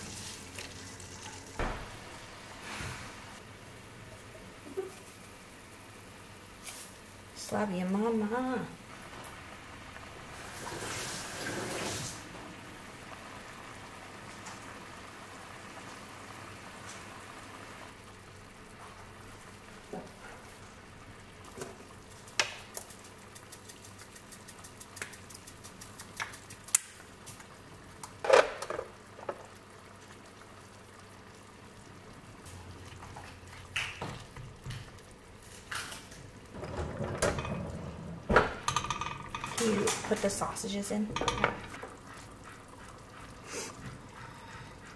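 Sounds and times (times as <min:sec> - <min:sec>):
sauce simmering in a pan: 0:00.0 - 0:36.7, 0:38.2 - 0:44.9.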